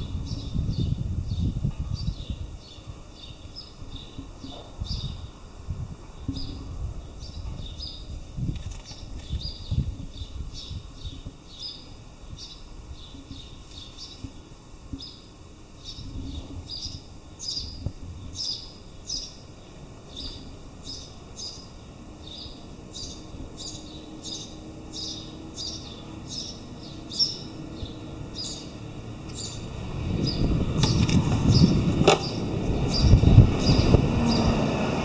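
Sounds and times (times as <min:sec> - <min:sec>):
bird chirping: 0:00.0 - 0:05.4, 0:06.1 - 0:34.6
steady background hiss: 0:00.0 - 0:35.0.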